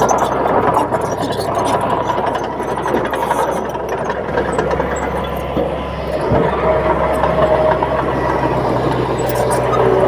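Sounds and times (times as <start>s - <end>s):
bulldozer diesel engine running: 0.0s - 10.0s.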